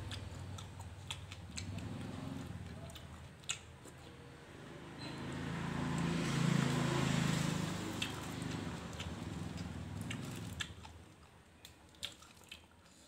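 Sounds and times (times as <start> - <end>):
vehicle passing by: 0.0 - 10.9.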